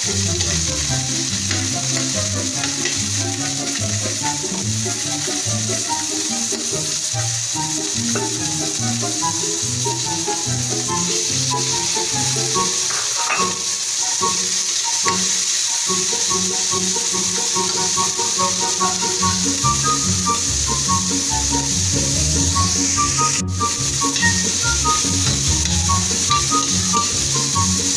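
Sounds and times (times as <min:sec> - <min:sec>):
background music: 0:00.0 - 0:27.9
vegetables sizzling in oil: 0:00.0 - 0:27.9.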